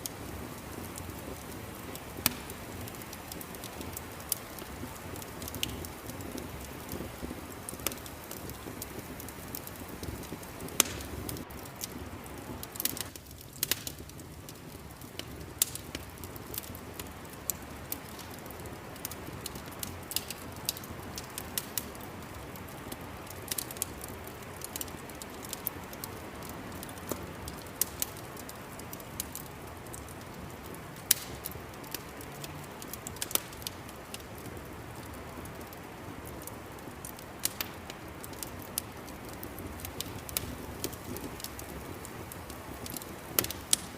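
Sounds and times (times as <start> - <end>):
fire crackling and popping: 0.0 - 43.9
steady low hiss: 0.0 - 43.9.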